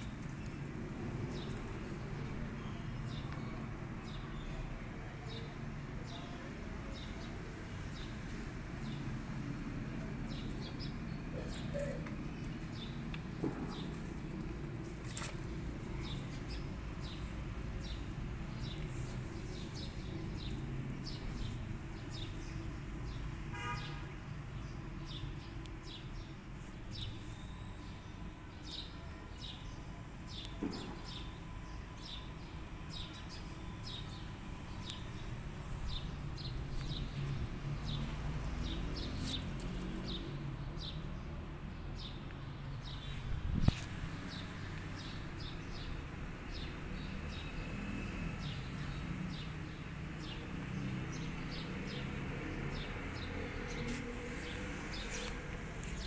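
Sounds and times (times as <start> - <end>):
small birds chirping: 0.0 - 24.0, 24.6 - 56.0
distant traffic rumble: 0.0 - 56.0.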